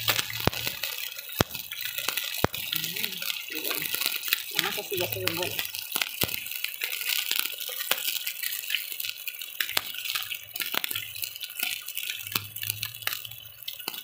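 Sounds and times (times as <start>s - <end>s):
steak sizzling with crackling pops: 0.0s - 14.0s.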